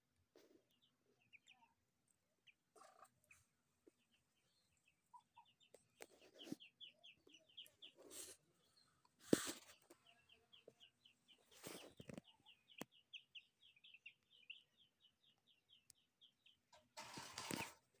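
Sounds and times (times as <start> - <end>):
ducklings peeping: 0.6 - 1.8, 2.4 - 17.8.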